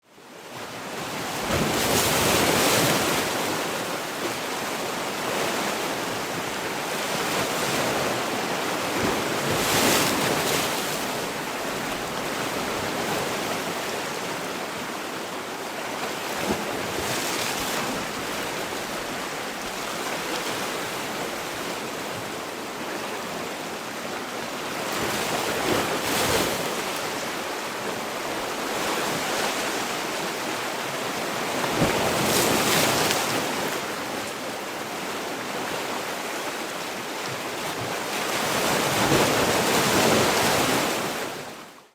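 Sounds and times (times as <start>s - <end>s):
sea waves breaking: 0.7s - 15.1s, 16.0s - 41.6s.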